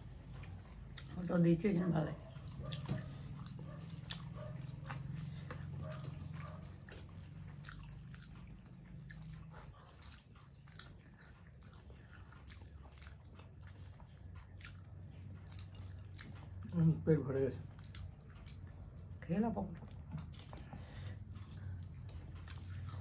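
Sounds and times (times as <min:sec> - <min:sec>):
chewing and biting: 0:00.0 - 0:23.0
low steady hum: 0:00.0 - 0:23.0.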